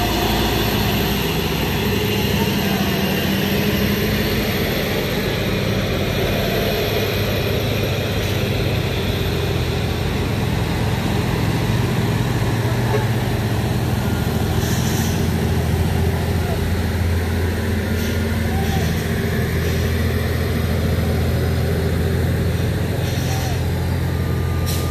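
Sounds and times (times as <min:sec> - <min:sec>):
diesel truck engine running: 0:00.0 - 0:24.9.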